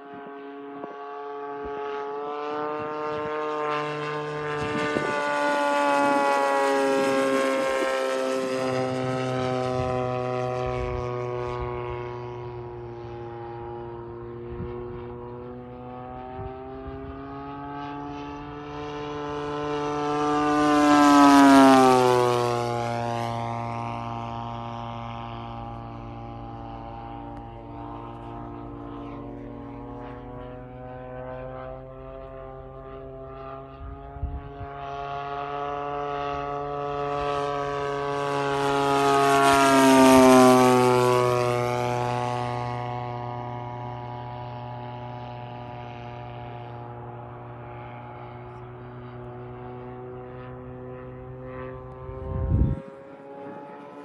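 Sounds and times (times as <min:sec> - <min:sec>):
model airplane engine flying by: 0:00.0 - 0:54.0.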